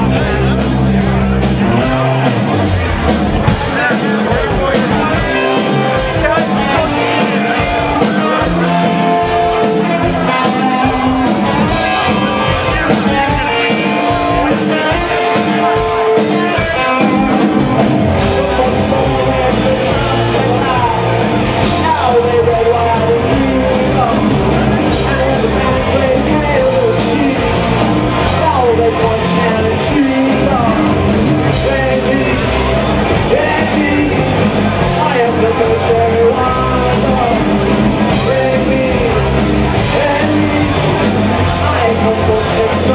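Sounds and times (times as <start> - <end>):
bass guitar: 0.0 - 42.9
drum beat: 0.0 - 42.9
rock band playing with vocals: 0.0 - 42.9.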